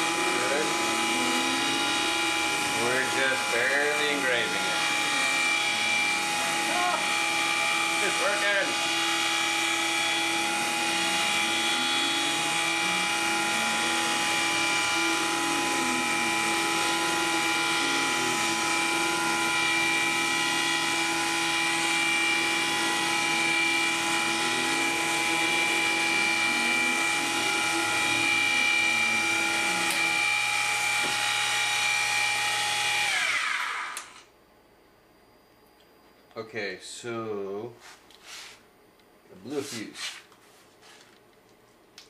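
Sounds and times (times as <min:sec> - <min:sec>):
spindle motor whine: 0:00.0 - 0:34.3.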